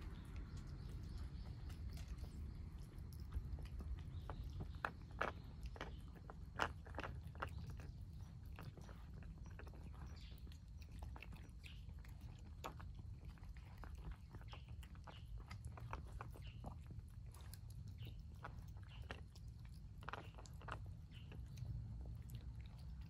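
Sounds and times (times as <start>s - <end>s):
cats chewing and lapping food: 0.0s - 23.0s
faint low rumble: 0.0s - 23.0s.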